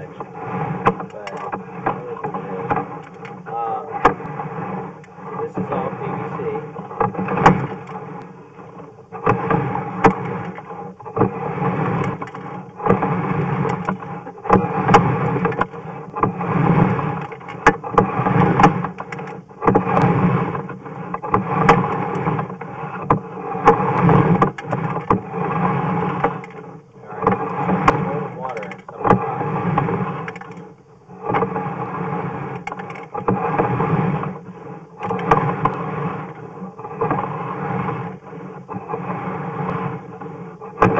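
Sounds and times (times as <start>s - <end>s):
cable scraping through pipe: 0.0s - 40.9s.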